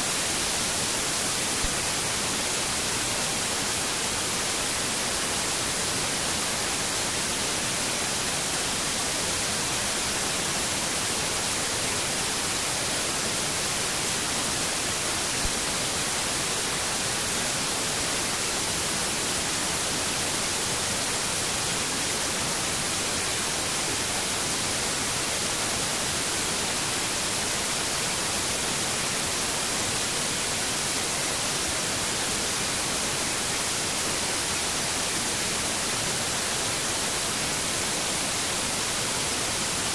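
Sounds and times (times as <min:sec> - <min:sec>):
static-like hiss: 0:00.0 - 0:39.9.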